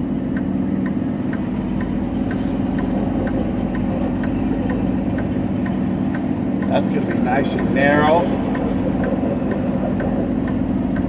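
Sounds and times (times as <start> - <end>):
diesel engine running: 0.0 - 11.0
light ticking: 0.0 - 11.0.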